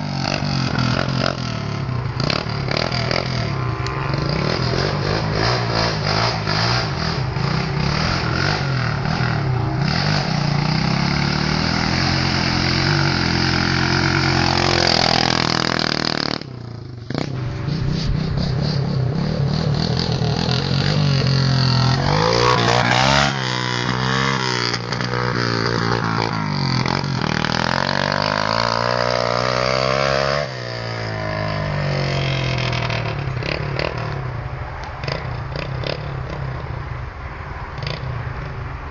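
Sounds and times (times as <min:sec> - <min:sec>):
pit bike engine revving: 0:00.0 - 0:34.3.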